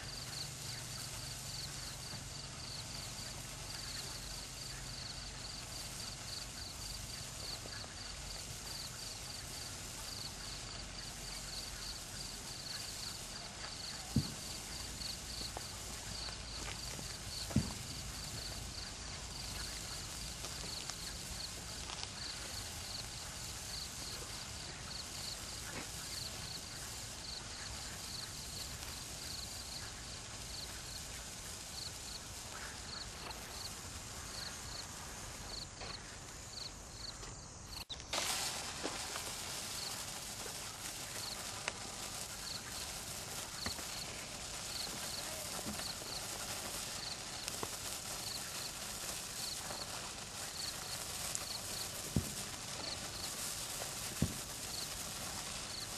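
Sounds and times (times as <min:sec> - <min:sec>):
insects chirping: 0:00.0 - 0:55.9
sparkler fizzing and crackling: 0:00.0 - 0:55.9.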